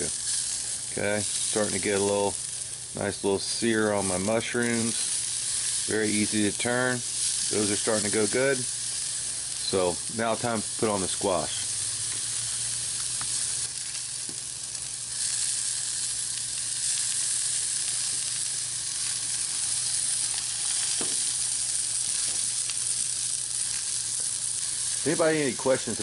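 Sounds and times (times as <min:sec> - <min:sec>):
vegetables sizzling on a grill: 0:00.0 - 0:26.0.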